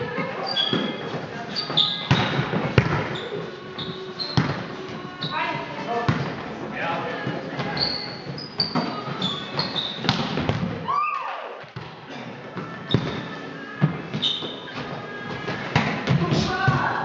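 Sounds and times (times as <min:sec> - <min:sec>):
sneaker squeaks on hall floor: 0:00.0 - 0:06.4, 0:07.3 - 0:10.7, 0:11.7 - 0:16.8.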